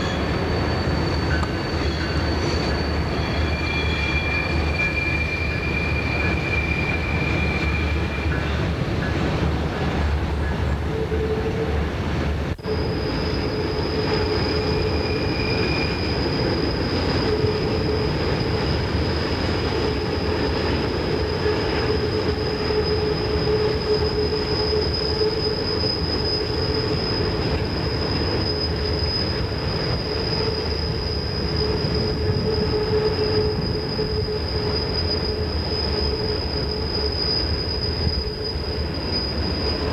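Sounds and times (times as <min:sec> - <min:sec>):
rumble of train cars: 0:00.0 - 0:39.9
train wheels squealing on rail: 0:00.0 - 0:39.9.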